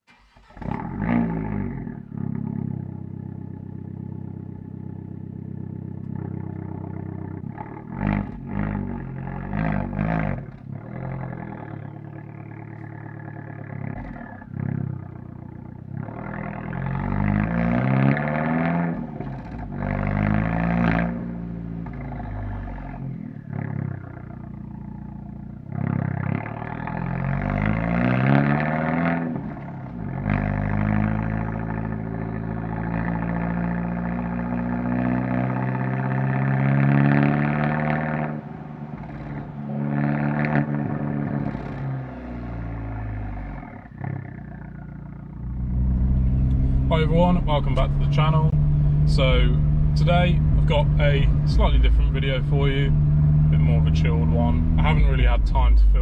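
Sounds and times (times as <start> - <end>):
car engine starting and revving: 0.0 - 56.0.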